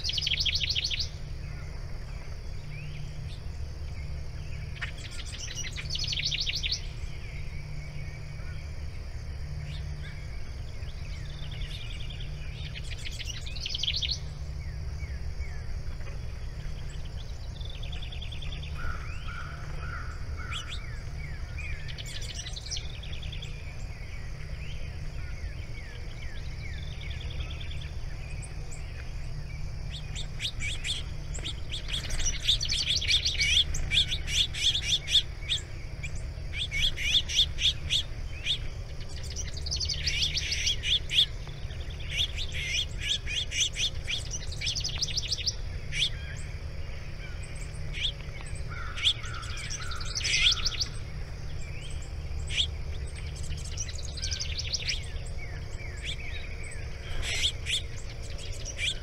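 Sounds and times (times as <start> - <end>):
songbirds chirping trills: 0.0 - 59.0.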